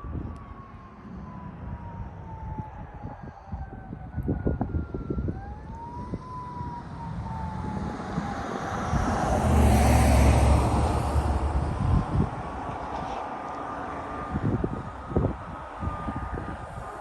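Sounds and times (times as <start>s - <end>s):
fire truck siren: 0.0s - 17.0s
heavy truck engine rumble: 0.0s - 17.0s.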